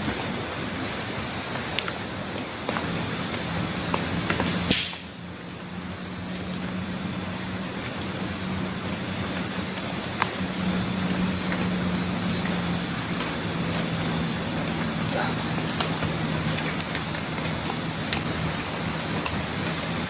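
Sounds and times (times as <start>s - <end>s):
low hum: 0.0s - 20.0s
steady hissing noise: 0.0s - 20.0s.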